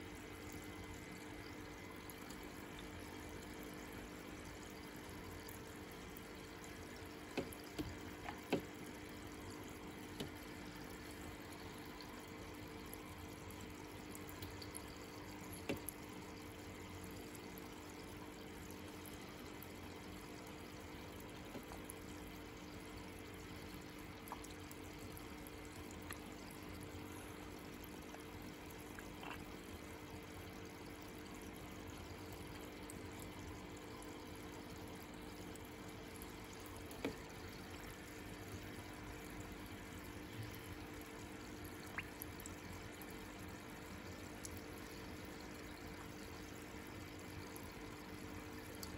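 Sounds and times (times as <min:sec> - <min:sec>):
low pump hum: 0:00.0 - 0:48.9
trickling water: 0:00.0 - 0:48.9.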